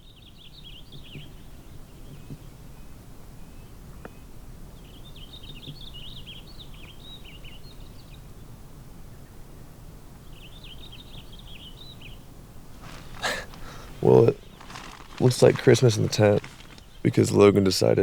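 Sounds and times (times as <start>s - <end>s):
songbird chirping: 0.0s - 8.2s, 10.3s - 18.0s.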